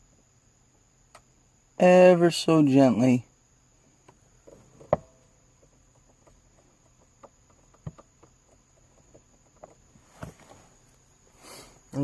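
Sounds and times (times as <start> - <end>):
faint steady high whine: 0.0 - 12.0.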